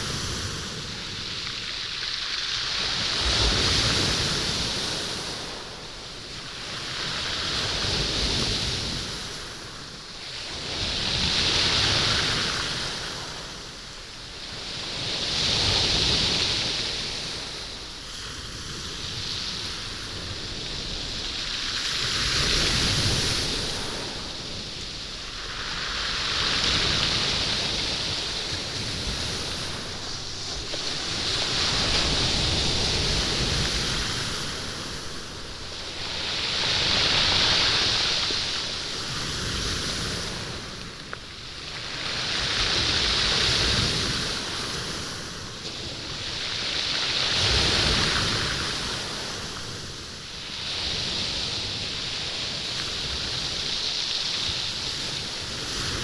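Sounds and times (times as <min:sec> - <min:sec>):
waves washing over stones: 0:00.0 - 0:56.0.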